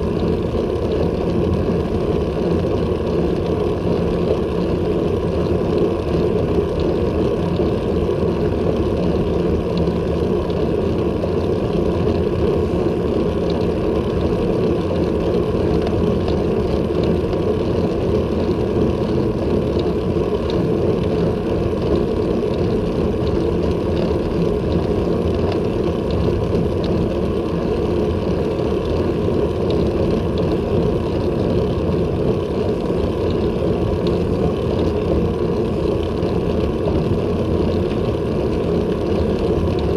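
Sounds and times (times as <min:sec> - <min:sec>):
bicycle road noise: 0:00.0 - 0:39.9.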